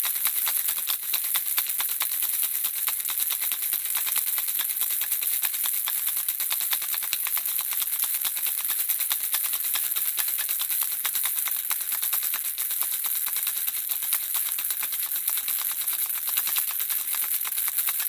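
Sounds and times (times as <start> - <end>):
baby rattle shaking: 0.0 - 18.0.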